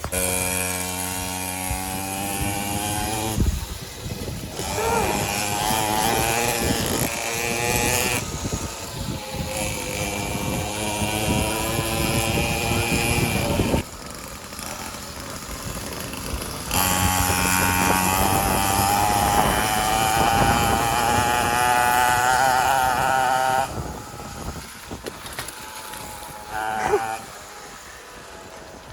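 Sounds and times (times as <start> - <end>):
small motorcycle engine buzzing: 0.0 - 28.9.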